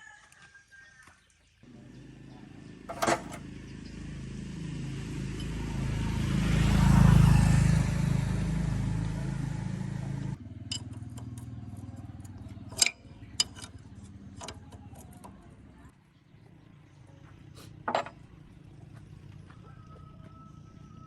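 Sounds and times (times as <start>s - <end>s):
engine running: 1.6s - 21.0s.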